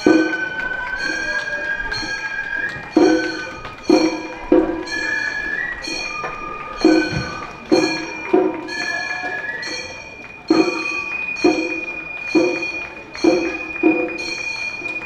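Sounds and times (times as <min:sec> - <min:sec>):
bamboo flute melody: 0:00.0 - 0:15.0
small gongs clanging: 0:00.0 - 0:15.0.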